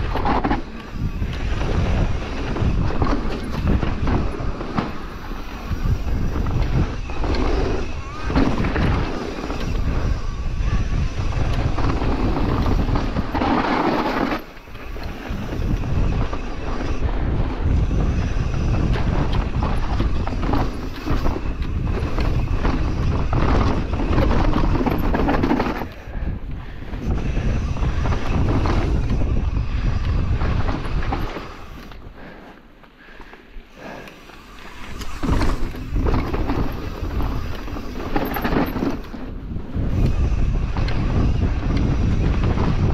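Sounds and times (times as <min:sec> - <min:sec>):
bike tyres rumbling on dirt: 0:00.0 - 0:33.2, 0:33.8 - 0:42.9
bike rattling: 0:00.0 - 0:42.9.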